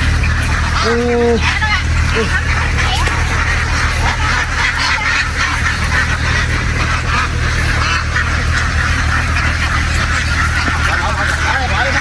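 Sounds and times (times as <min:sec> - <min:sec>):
ducks quacking: 0:00.0 - 0:12.0
steady low hum: 0:00.0 - 0:12.0.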